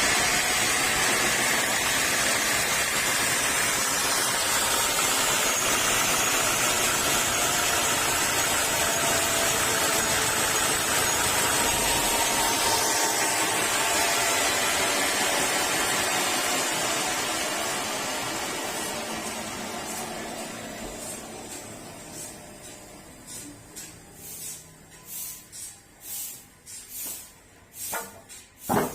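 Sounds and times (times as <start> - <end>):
sawmill saw drone: 0.0 - 28.9.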